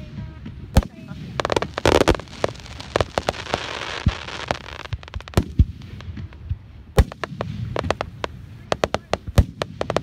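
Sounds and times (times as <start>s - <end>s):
crackling hiss: 0.0s - 10.0s.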